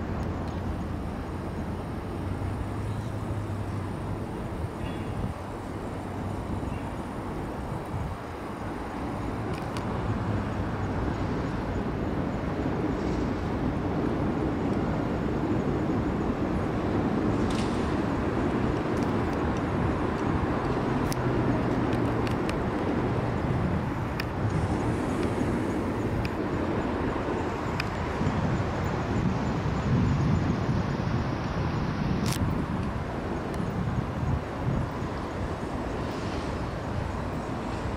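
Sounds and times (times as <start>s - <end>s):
city traffic rumble: 0.0s - 37.9s.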